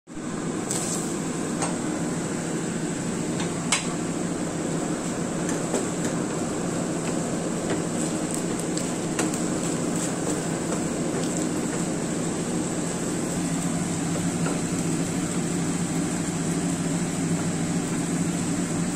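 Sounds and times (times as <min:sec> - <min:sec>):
steady low hum: 0:00.1 - 0:18.9.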